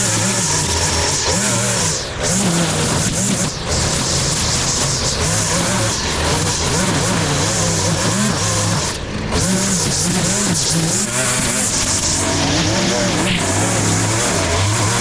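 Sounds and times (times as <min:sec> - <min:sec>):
string trimmer cutting grass: 0:00.0 - 0:15.0.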